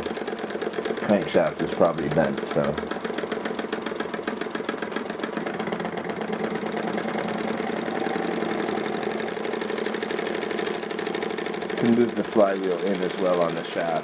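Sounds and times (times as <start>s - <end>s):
steam engine running: 0.0s - 14.0s.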